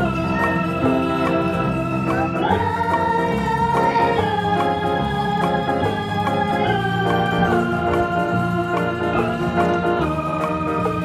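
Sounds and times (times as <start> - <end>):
organ-like held chords: 0.0 - 11.0.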